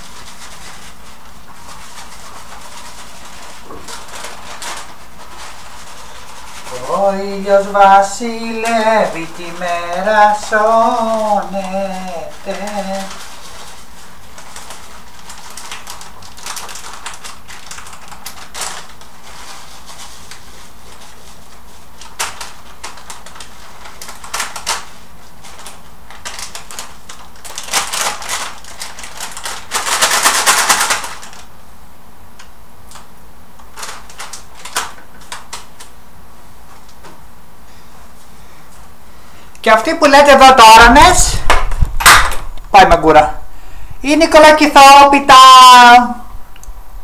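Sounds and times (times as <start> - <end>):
plastic bag rustling: 0.0 - 31.6, 33.0 - 47.0.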